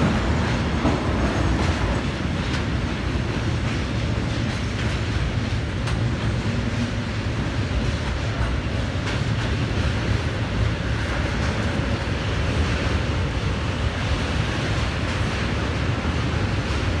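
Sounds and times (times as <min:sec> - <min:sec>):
electric locomotive running: 0:00.0 - 0:17.0.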